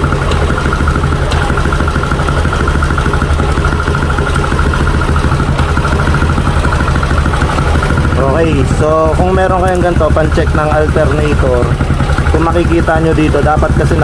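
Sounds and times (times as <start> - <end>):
scooter engine idling: 0.0 - 14.0.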